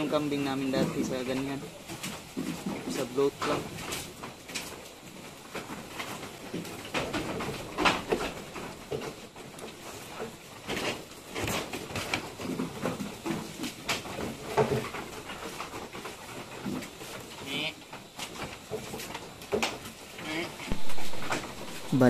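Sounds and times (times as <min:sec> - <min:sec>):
knocks and shuffling in pen: 0:00.0 - 0:22.0.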